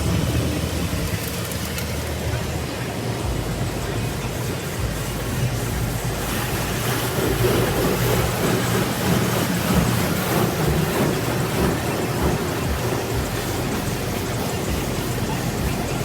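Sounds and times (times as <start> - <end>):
car wash water spraying: 0.0 - 16.0.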